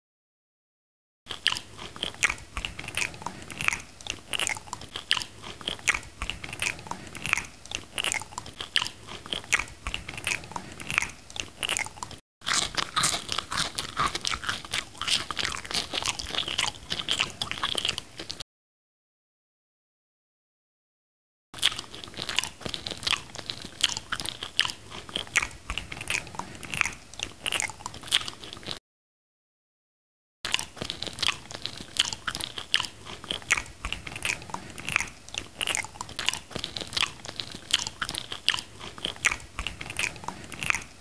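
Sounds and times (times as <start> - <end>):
chewing and biting fruit: 1.3 - 18.4, 21.6 - 28.8, 30.4 - 41.0
wet mouth clicks and crunches: 1.3 - 18.4, 21.6 - 28.8, 30.5 - 41.0.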